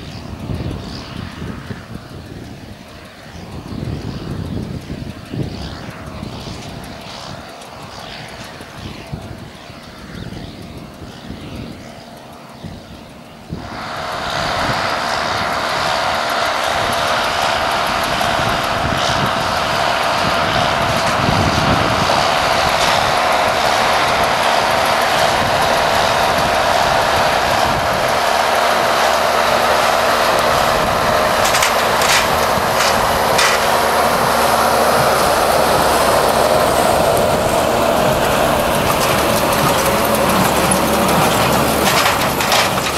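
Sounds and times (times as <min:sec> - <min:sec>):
tractor engine and baler drone: 0:00.0 - 0:42.9.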